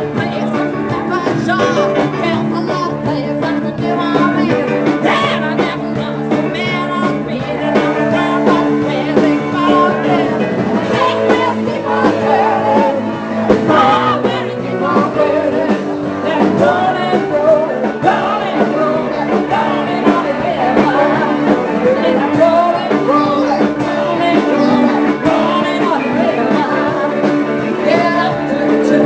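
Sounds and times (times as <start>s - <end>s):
live rock and roll band: 0.0s - 29.0s
person singing: 0.0s - 29.0s.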